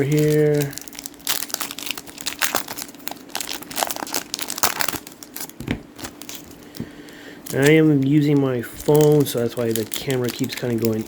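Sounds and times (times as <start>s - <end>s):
card pack wrappers tearing: 0.0s - 11.0s
wrappers crinkling: 0.0s - 11.0s.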